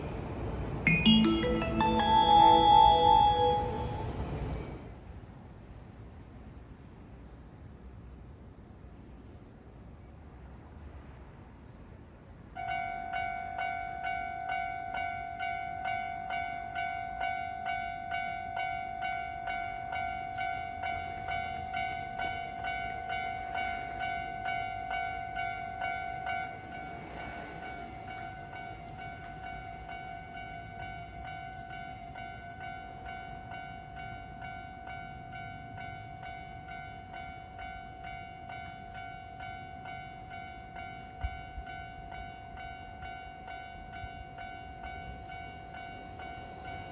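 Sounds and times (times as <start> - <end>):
level-crossing warning bell: 0.9 - 4.8, 12.6 - 46.9.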